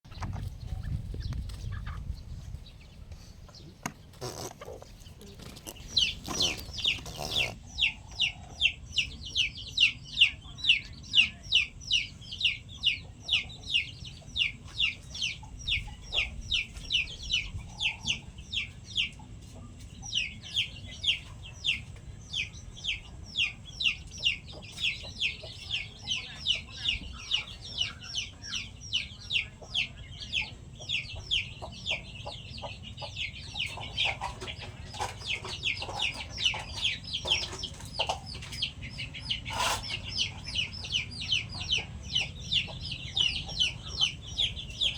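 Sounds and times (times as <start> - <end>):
chick peeping: 0.1 - 44.9.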